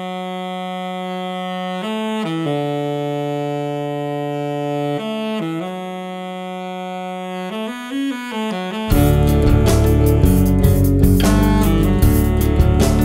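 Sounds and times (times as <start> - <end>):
saxophone playing long notes: 0.0 - 13.0.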